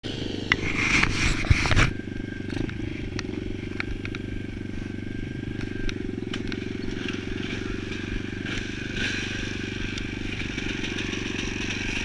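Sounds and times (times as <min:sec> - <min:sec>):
motocross bike engine idling: 0:00.1 - 0:12.0.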